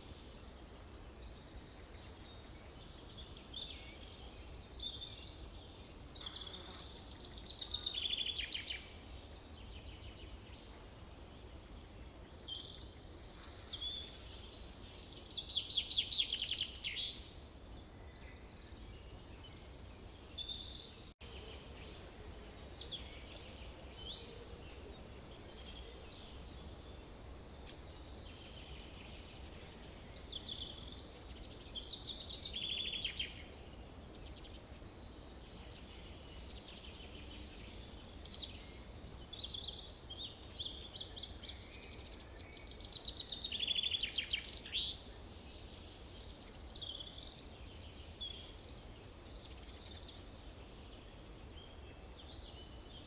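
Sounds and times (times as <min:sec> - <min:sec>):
faint background hiss: 0:00.0 - 0:53.0.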